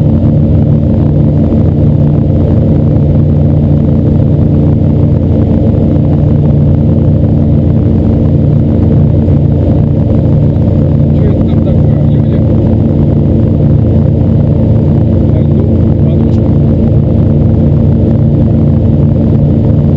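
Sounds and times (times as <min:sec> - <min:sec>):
boat motor running: 0:00.0 - 0:19.9.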